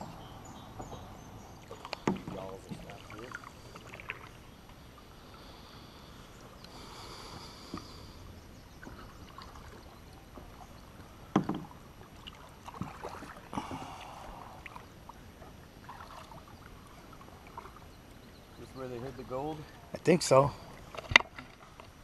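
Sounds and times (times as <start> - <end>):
paddle splashes and drips: 0.0 - 22.0.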